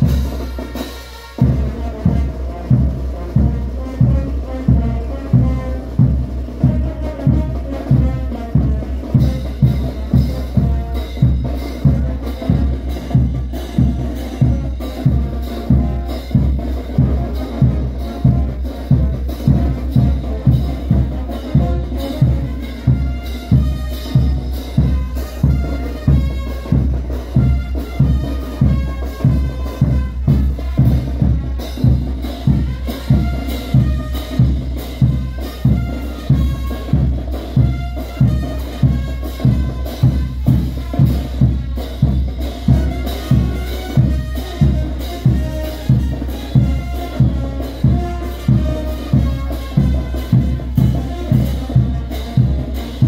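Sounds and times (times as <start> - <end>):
loud steady drum beat: 0.0 - 53.0
wind instruments melody: 0.0 - 53.0.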